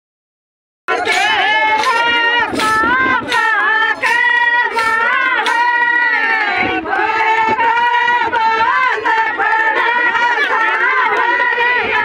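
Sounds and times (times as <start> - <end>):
women singing folk song: 0.9 - 12.0.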